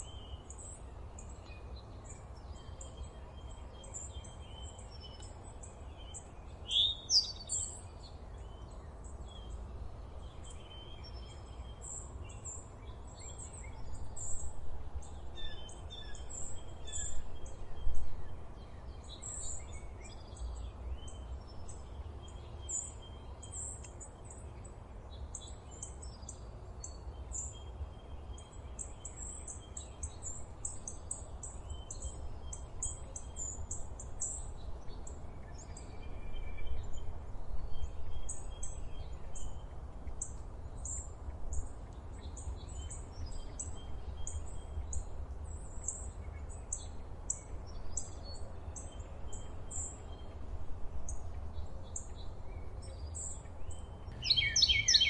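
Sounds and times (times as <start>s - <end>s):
small birds chirping: 0.0s - 14.5s, 15.1s - 55.0s.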